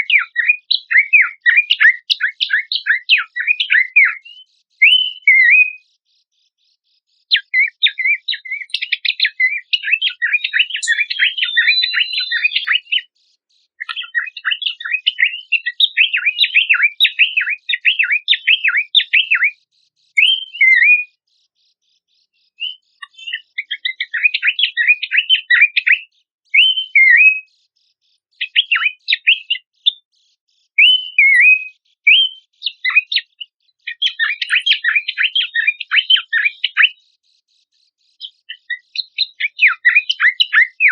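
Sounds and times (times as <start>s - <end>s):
bird chattering: 0.0s - 5.8s, 7.2s - 21.6s, 22.2s - 40.9s
bird whistled notes: 0.0s - 5.8s, 7.3s - 13.1s, 13.8s - 19.6s, 20.2s - 21.2s, 22.6s - 27.5s, 28.4s - 30.0s, 30.8s - 37.0s, 38.2s - 40.9s.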